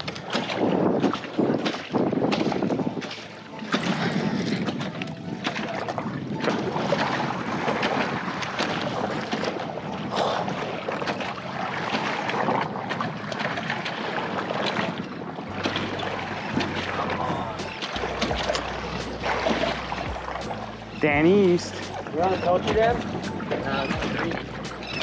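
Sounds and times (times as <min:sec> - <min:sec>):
waves washing against hull: 0:00.0 - 0:25.0
wind buffeting microphone: 0:00.0 - 0:25.0.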